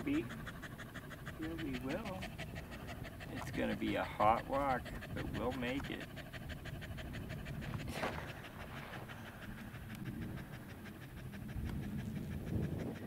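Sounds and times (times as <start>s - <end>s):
dog panting: 0.0s - 13.0s
low rumble of wind: 0.0s - 13.0s.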